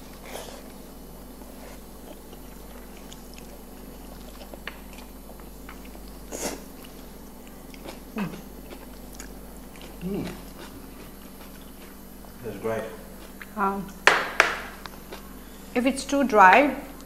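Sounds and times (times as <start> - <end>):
quiet chewing: 0.0 - 14.0, 14.7 - 15.6
low hum from a voice: 0.0 - 17.0.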